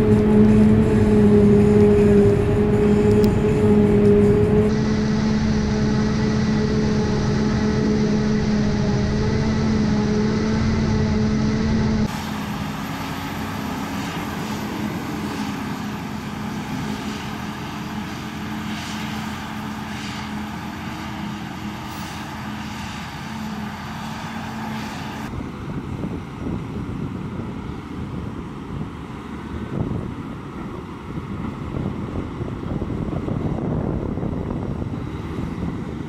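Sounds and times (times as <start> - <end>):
forage harvester engine drone: 0.0 - 36.0.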